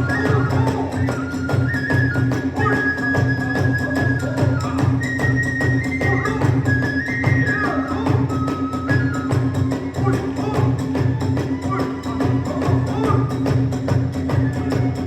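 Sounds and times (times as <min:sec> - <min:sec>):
bamboo flute melody: 0:00.0 - 0:15.0
large drum beating: 0:00.0 - 0:15.0.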